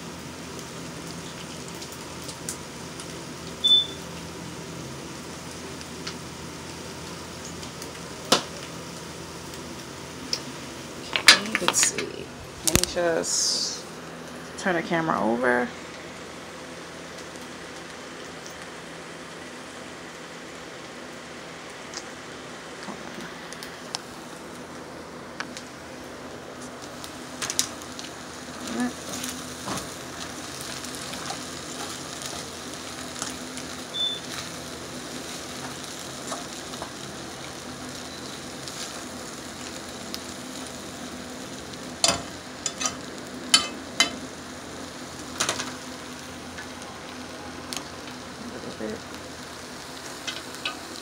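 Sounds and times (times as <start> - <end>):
food sizzling in metal pot: 0.0 - 51.0.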